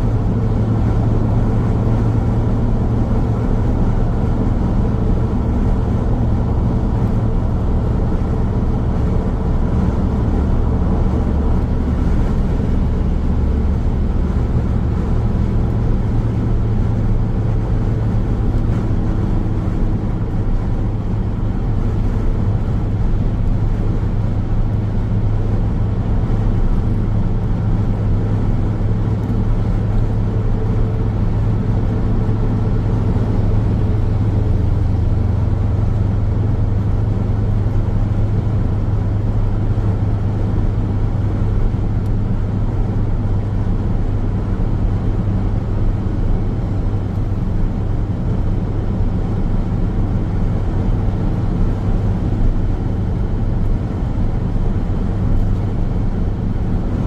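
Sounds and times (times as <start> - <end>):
car tyres and engine rumbling: 0.0 - 57.0.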